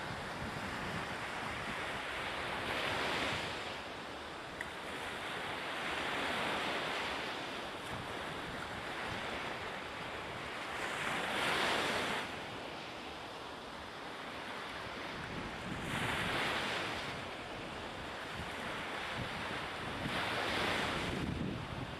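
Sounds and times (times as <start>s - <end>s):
ocean waves breaking on beach: 0.0s - 21.9s.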